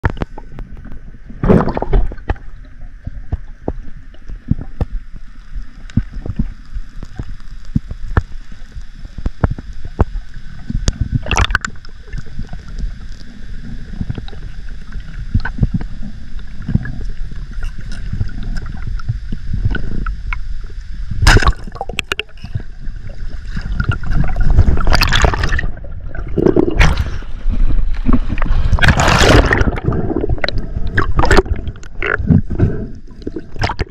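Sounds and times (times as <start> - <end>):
water gurgling and sloshing: 0.0 - 33.9.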